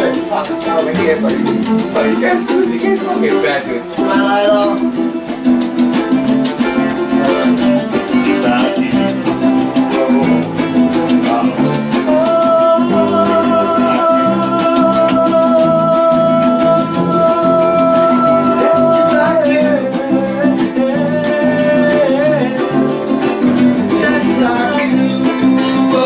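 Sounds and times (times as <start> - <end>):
acoustic guitar strumming: 0.0 - 26.0
person singing: 0.0 - 26.0.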